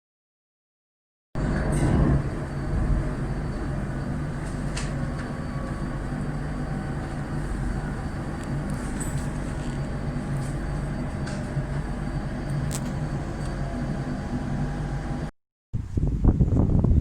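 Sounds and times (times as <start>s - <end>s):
electric train rumbling: 1.4s - 15.3s.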